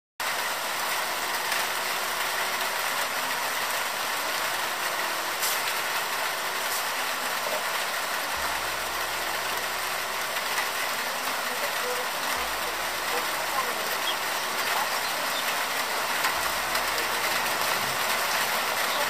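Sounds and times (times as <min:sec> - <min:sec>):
heavy rain falling: 0:00.2 - 0:19.0.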